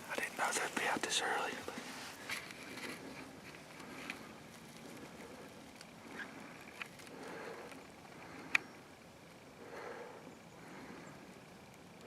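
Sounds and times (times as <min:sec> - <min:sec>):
faint rustling in grass: 0:00.0 - 0:12.0.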